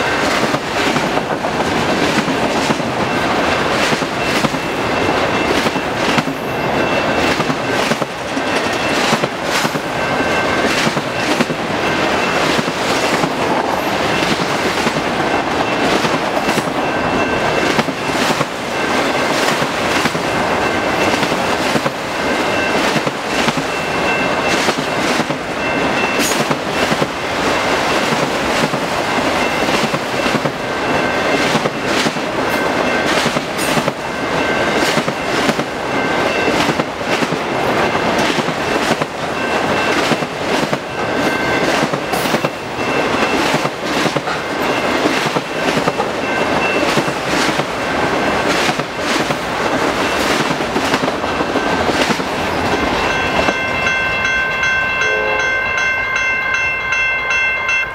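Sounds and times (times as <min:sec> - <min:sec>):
wheels clacking on rail joints: 0:00.0 - 0:57.9.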